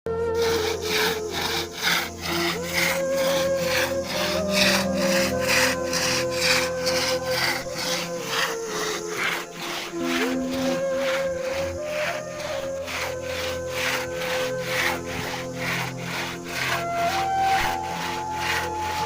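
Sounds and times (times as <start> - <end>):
held melody line: 0.2 - 19.0
scraping percussion beat: 0.4 - 19.0.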